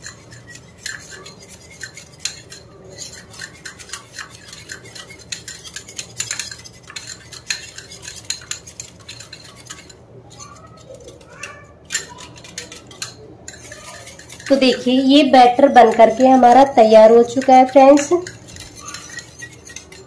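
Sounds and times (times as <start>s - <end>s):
whisk clicking against clay bowl: 0.0s - 20.0s.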